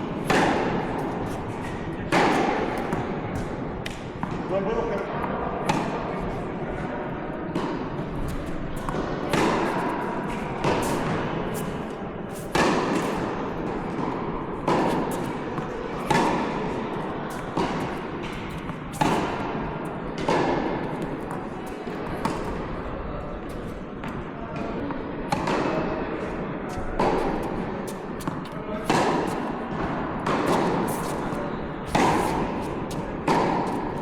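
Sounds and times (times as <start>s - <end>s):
tennis ball bouncing on court: 0.0s - 6.8s, 7.5s - 34.0s
tennis ball struck by racket: 0.0s - 6.8s, 7.5s - 34.0s.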